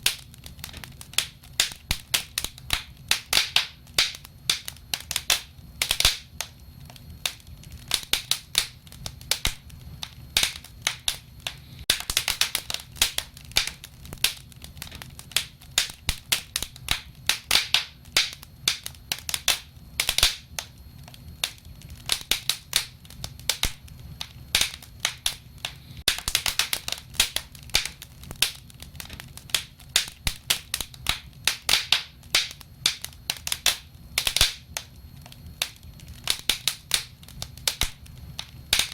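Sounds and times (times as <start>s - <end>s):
low rumble of flames: 0.0s - 38.9s
wood fire pops and snaps: 0.0s - 38.9s.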